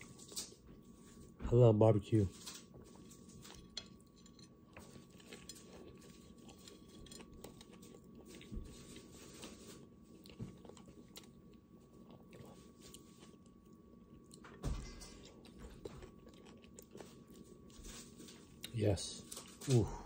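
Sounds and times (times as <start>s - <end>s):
person chewing food: 2.7s - 18.8s.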